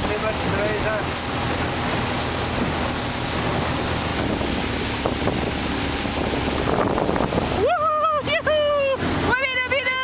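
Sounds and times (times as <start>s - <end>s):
motorboat motor droning: 0.0s - 10.0s
water rushing past hull: 0.0s - 10.0s
wind buffeting microphone: 0.0s - 10.0s.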